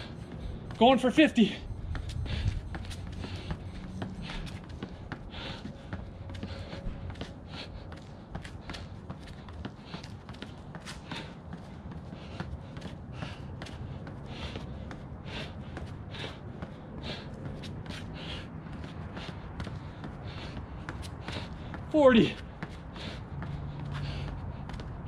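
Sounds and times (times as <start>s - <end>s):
hard breathing: 0.0s - 25.0s
sneakers scuffing on concrete: 0.0s - 25.0s.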